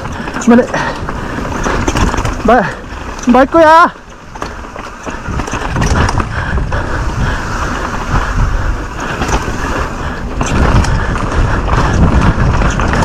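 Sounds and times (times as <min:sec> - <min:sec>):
bike rattling and knocking: 0:00.0 - 0:13.0
wind rush on microphone: 0:00.0 - 0:13.0.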